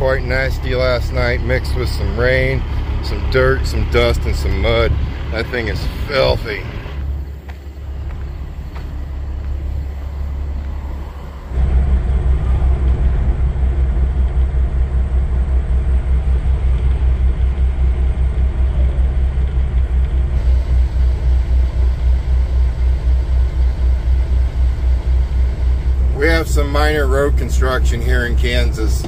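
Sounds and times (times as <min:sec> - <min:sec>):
diesel truck engine rumbling: 0:00.0 - 0:29.0.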